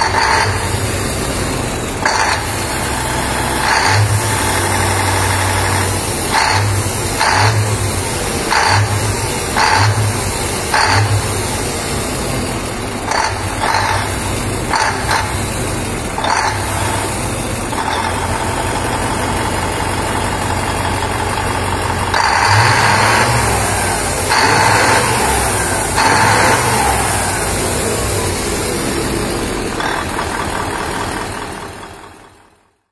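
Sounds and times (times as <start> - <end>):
diesel engine idling and revving: 0.0 - 32.9.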